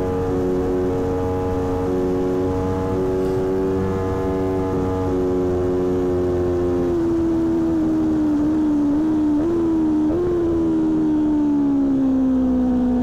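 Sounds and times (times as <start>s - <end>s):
motorcycle engine running at speed: 0.0s - 13.0s.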